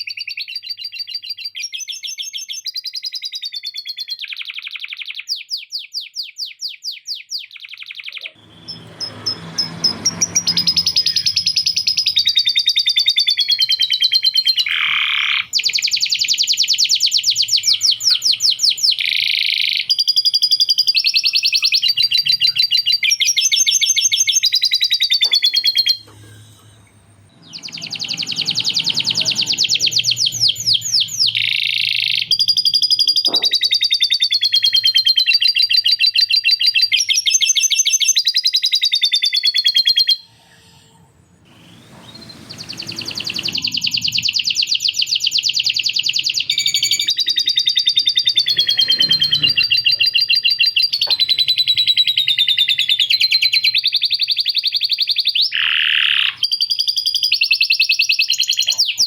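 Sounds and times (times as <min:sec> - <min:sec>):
canary singing trills: 0:00.0 - 0:40.4, 0:41.5 - 0:59.0.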